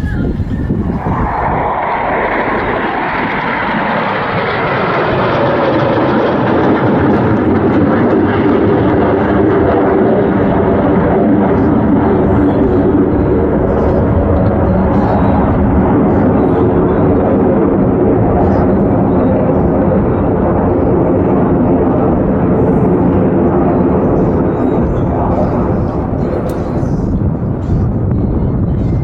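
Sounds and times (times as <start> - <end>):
aircraft engine flying past: 0.0 - 29.0.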